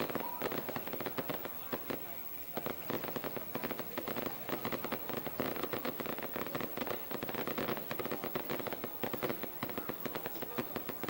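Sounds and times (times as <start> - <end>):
firecrackers popping: 0.0 - 11.0.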